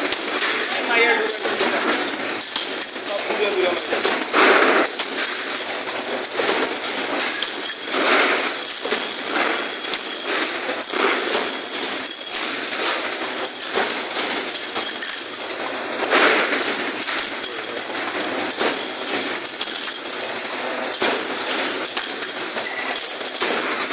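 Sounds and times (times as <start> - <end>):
machine clattering and knocking: 0.0 - 23.9.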